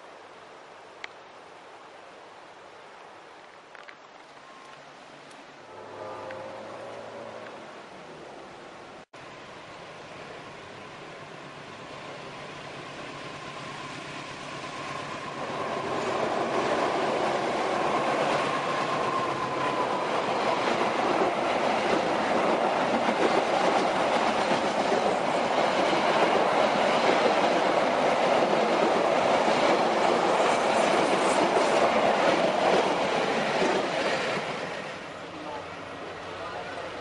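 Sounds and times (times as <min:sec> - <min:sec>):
diesel train passing: 0:05.6 - 0:37.0.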